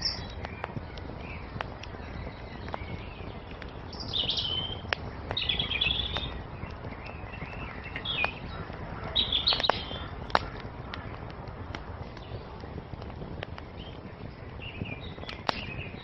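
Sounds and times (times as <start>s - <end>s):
burning wood popping: 0.0s - 16.0s
small songbirds chirping: 0.0s - 16.0s
wood fire crackling: 0.0s - 16.0s.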